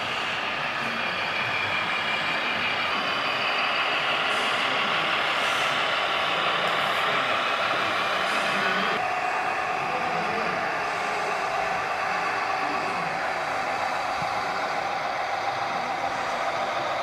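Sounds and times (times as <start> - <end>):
toy truck engine running: 0.0 - 17.0.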